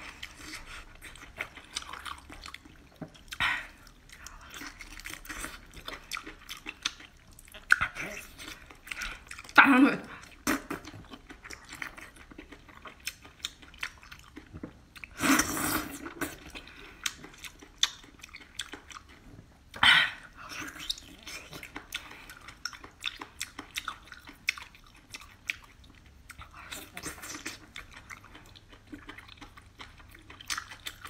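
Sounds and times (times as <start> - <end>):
wet chewing: 0.0 - 19.8, 20.4 - 31.0.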